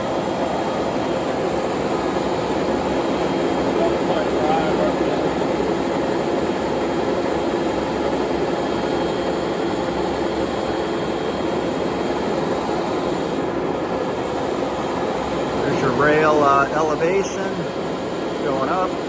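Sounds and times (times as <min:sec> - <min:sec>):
lathe motor humming: 0:00.0 - 0:19.0.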